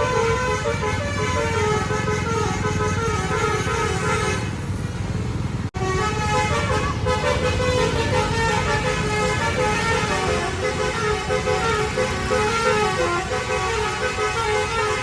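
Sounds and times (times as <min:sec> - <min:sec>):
multi-tone bus horn tune: 0:00.0 - 0:04.6, 0:05.8 - 0:15.0
engines rumbling: 0:00.0 - 0:15.0.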